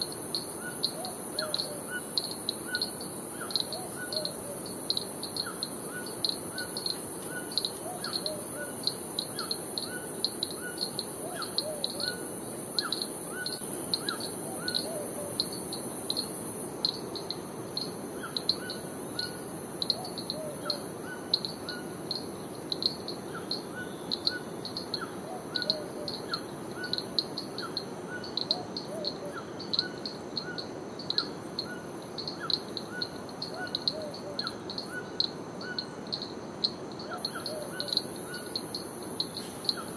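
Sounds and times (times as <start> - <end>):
high insect hiss: 0.0 - 39.9.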